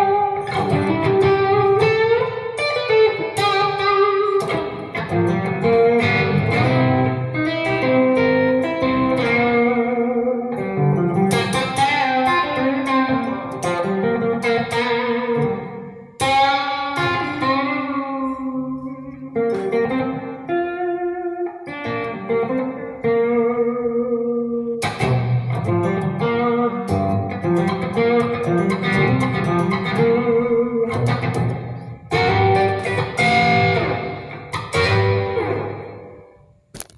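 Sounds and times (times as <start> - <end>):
guitar playing notes and chords: 0.0 - 36.9.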